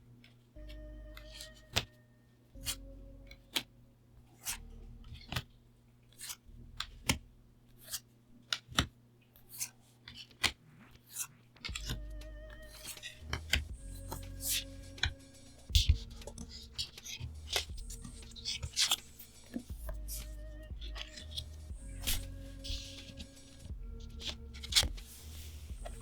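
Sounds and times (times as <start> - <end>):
cards clicking and snapping: 4.3 - 26.0.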